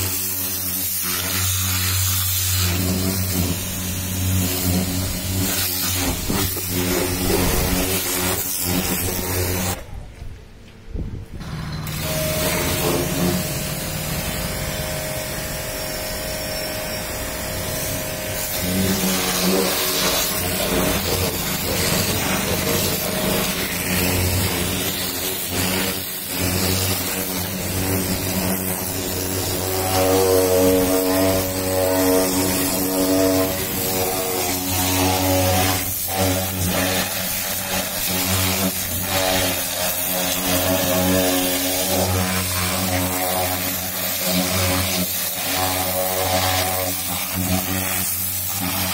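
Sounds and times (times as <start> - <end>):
pressure washer motor hum: 0.0 - 9.8, 11.4 - 48.9
water jet hissing on car: 0.0 - 9.8, 11.9 - 48.9.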